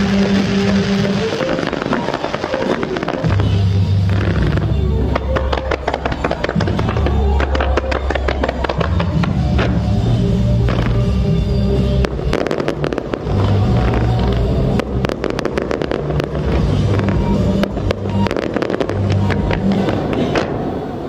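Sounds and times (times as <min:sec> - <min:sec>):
music with heavy bass: 0:00.0 - 0:20.6
fireworks bursting and crackling: 0:00.0 - 0:21.0.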